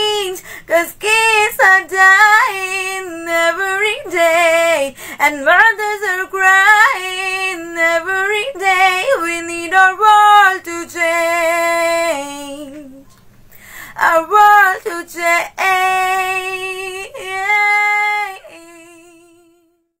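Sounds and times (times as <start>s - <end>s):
woman singing unaccompanied: 0.0s - 13.0s, 13.8s - 19.9s.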